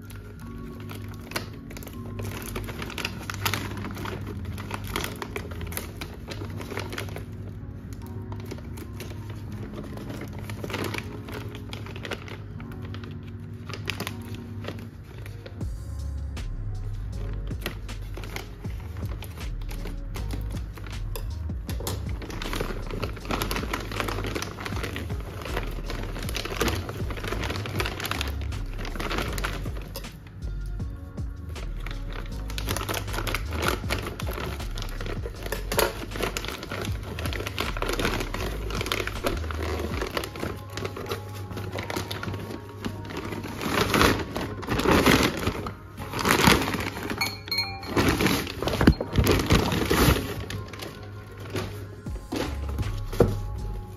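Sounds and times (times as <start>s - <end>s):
scissors cutting plastic bag: 0.0s - 15.7s, 16.8s - 53.9s.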